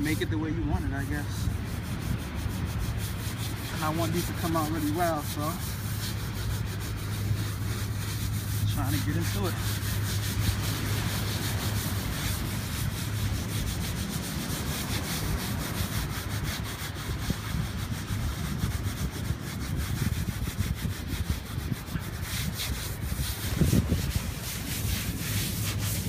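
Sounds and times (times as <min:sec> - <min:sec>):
sand scraping against denim: 0:00.0 - 0:26.0.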